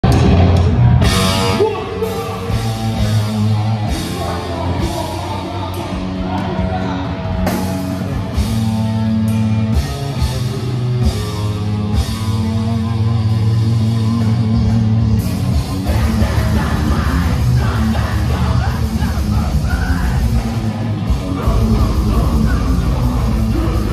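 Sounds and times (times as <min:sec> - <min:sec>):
yelled vocals: 0:00.0 - 0:09.0, 0:12.8 - 0:23.9
heavy metal band playing: 0:00.0 - 0:23.9.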